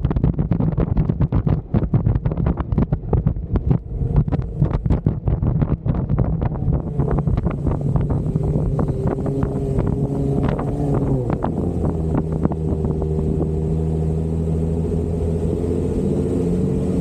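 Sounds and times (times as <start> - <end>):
vehicle engine drone: 0.0 - 17.0
wind buffeting microphone: 0.0 - 17.0.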